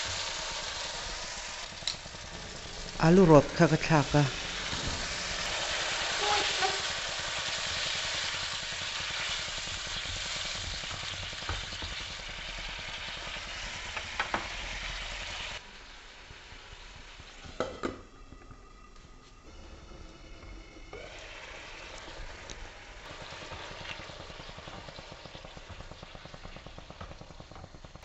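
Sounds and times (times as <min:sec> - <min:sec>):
curry sizzling in a pan: 0:00.0 - 0:18.2, 0:19.8 - 0:28.0.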